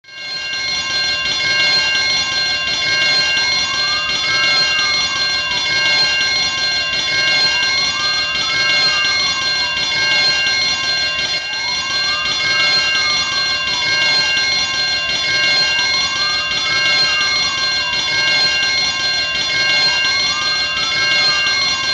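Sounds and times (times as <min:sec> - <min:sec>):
fire alarm bell ringing: 0:00.0 - 0:21.9.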